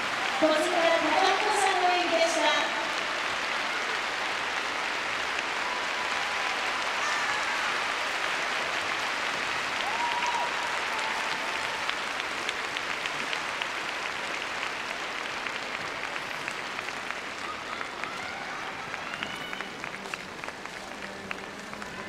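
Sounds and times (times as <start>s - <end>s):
large crowd applauding: 0.0s - 22.0s.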